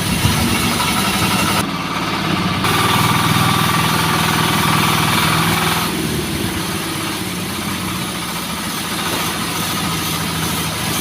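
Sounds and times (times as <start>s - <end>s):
sawmill engine running: 0.0s - 11.0s.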